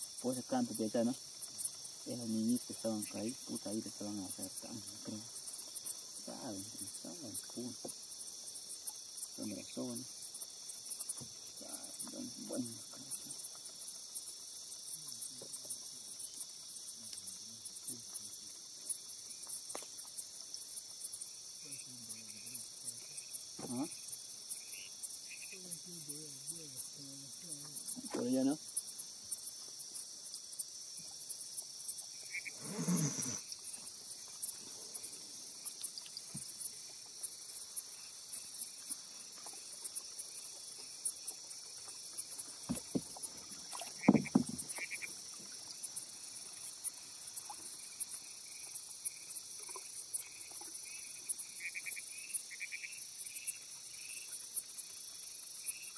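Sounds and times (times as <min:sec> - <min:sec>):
night insect chorus: 0:00.0 - 0:55.9.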